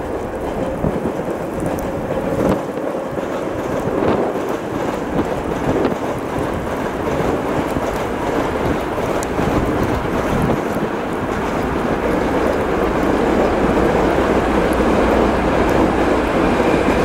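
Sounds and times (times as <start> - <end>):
wheel clacks: 0.0 - 17.0
wheels on rails: 0.0 - 17.0.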